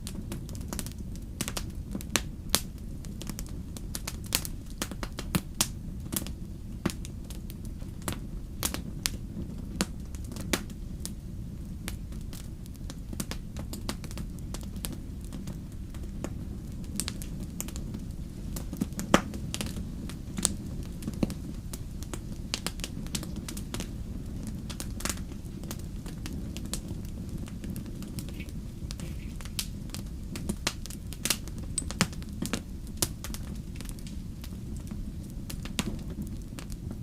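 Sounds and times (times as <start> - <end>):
wood fire pops and snaps: 0.0 - 11.2, 11.8 - 37.0
low rumble of flames: 0.0 - 37.0.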